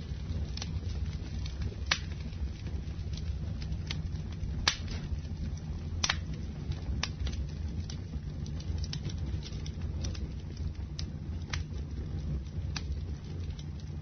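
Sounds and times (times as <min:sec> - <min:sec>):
burning wood crackling and popping: 0:00.0 - 0:14.0
campfire flames rumbling: 0:00.0 - 0:14.0.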